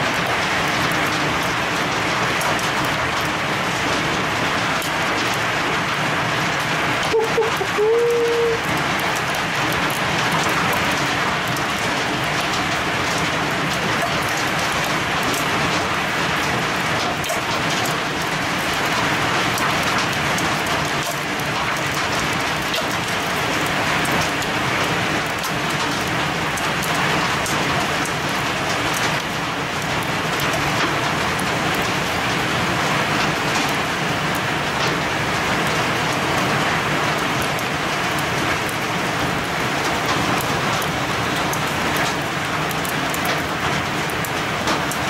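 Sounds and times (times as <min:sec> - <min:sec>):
heavy rain splashing on railing: 0:00.0 - 0:45.0.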